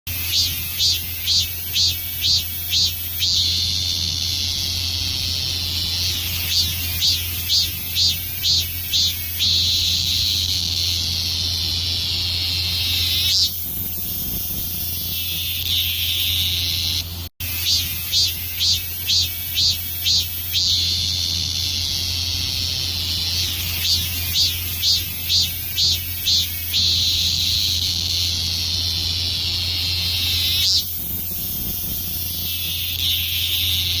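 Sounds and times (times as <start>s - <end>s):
cicada high buzzing: 0.1s - 34.0s.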